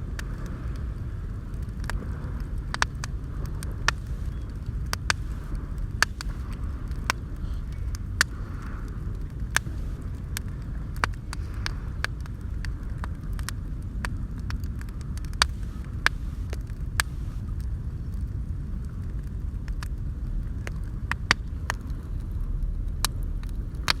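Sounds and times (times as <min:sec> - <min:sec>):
bonfire crackling and popping: 0:00.0 - 0:24.0
low fire rumble: 0:00.0 - 0:24.0.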